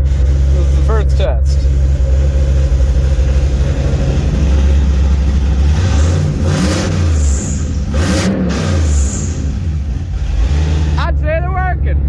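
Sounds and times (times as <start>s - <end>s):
car engine with low exhaust note: 0.0s - 12.0s.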